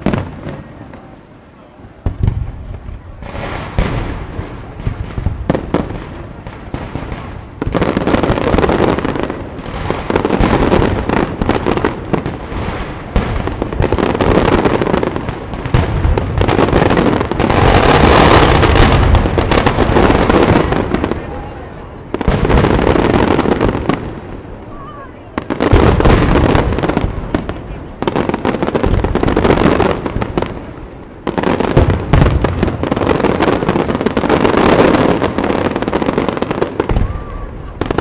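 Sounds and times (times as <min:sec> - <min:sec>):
fireworks bangs and crackle: 0:00.0 - 0:38.0.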